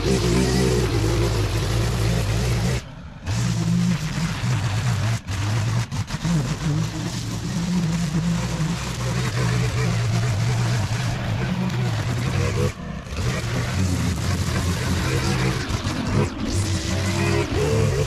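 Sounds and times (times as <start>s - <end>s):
string trimmer cutting grass: 0.0s - 18.0s.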